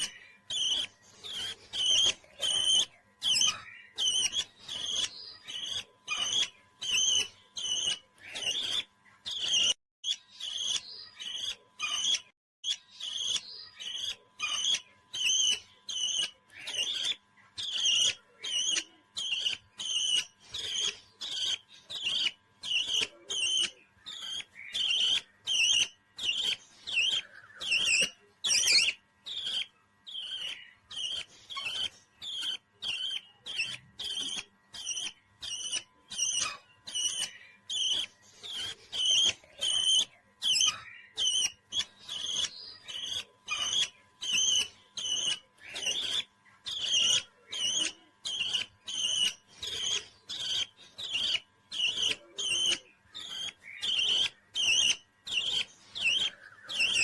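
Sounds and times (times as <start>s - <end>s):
parrot chirping: 0.0s - 57.0s.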